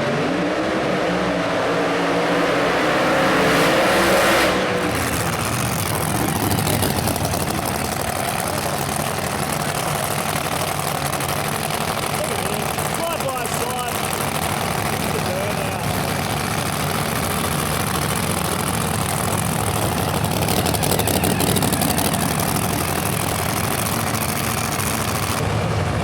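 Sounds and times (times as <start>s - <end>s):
race car engine revving: 0.0s - 26.0s.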